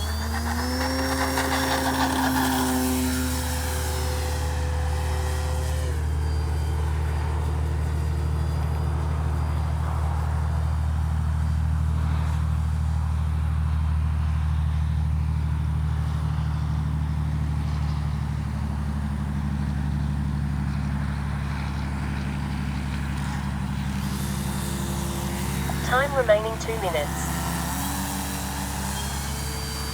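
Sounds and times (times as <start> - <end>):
model airplane motor whine: 0.0 - 26.2, 27.2 - 29.9.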